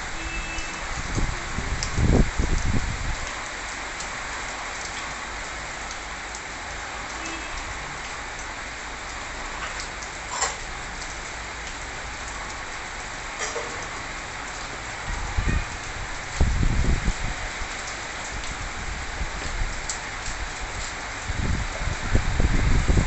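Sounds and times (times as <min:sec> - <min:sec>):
rain falling on plants: 0:00.0 - 0:23.0.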